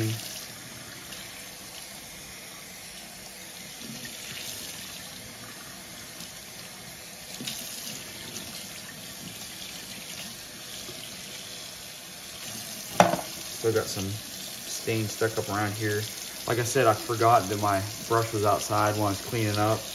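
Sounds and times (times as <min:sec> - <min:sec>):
faucet water running into sink: 0:00.0 - 0:19.9.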